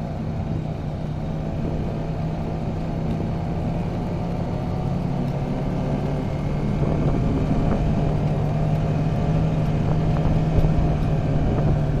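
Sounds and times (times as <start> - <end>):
car engine hum: 0.0 - 12.0
road rumble: 0.0 - 12.0.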